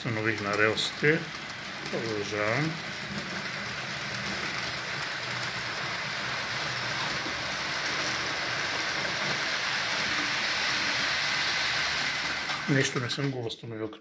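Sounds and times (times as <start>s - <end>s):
locomotive motor: 0.0s - 13.3s
model train wheels on rails: 0.0s - 13.5s.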